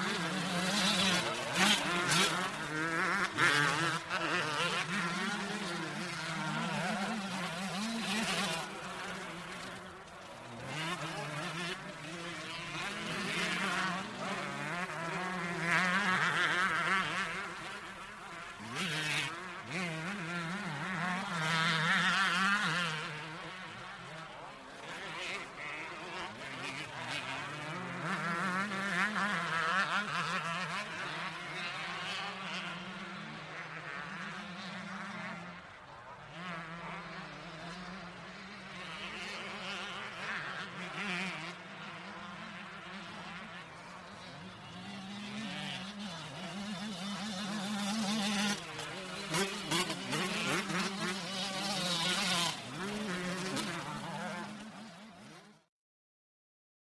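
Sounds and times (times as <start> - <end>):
dirt bike engines revving: 0.0 - 55.6.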